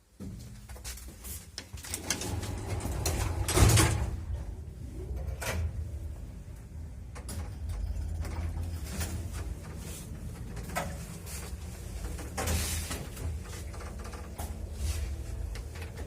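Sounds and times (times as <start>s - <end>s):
lift humming: 2.0s - 16.0s.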